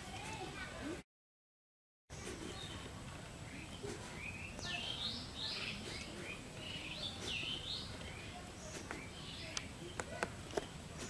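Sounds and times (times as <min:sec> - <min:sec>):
birds chirping: 0:02.1 - 0:11.0
steady background hiss: 0:02.1 - 0:11.0.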